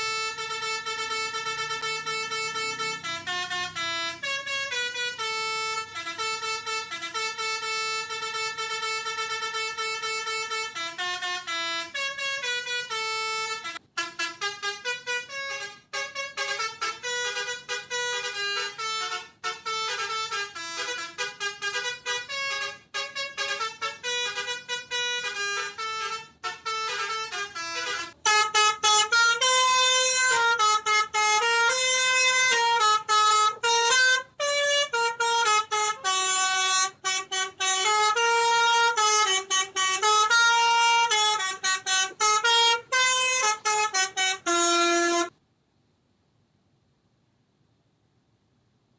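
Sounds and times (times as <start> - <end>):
multi-tone horn playing a melody: 0.0 - 45.4.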